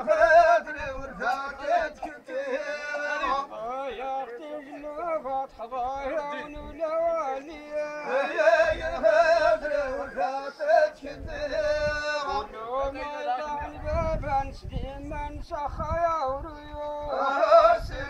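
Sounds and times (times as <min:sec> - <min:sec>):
man singing a chant: 0:00.0 - 0:18.0.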